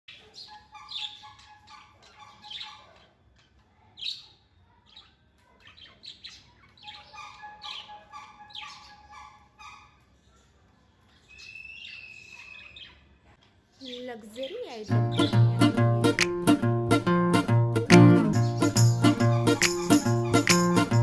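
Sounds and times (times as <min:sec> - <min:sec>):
sparrows chirping: 0:00.1 - 0:17.1, 0:18.0 - 0:21.0.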